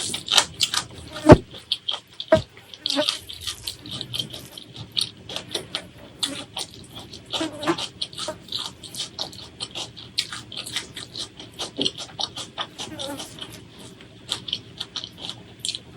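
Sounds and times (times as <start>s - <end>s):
chewing and mouth smacks: 0.0s - 15.9s.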